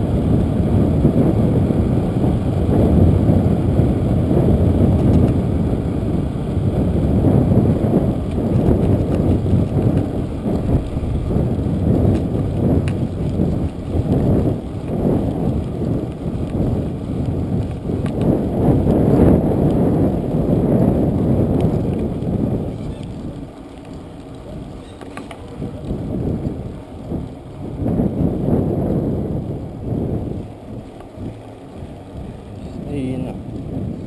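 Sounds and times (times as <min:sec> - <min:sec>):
tyres rolling on asphalt: 0:00.0 - 0:34.0
wind buffeting microphone: 0:00.0 - 0:34.0.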